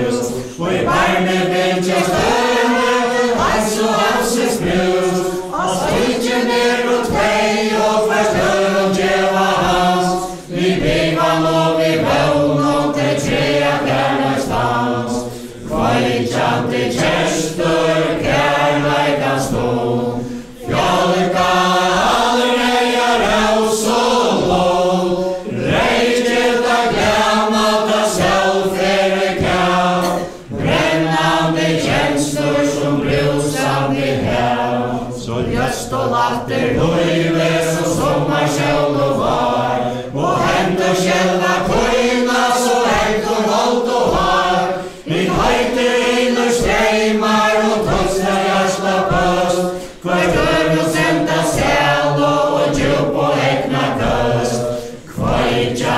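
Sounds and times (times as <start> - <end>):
group of men and women singing: 0.0 - 55.9.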